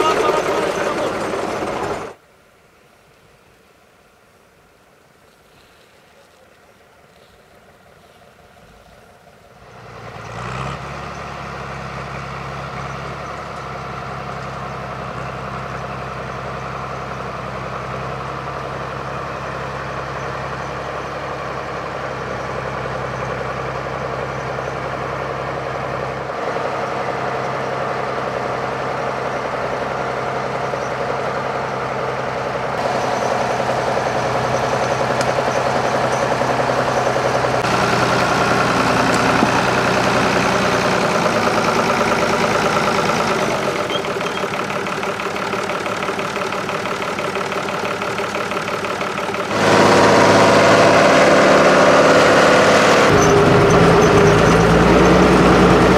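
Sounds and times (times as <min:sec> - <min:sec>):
tractor diesel engine running: 0:00.0 - 0:02.2, 0:05.5 - 0:55.9.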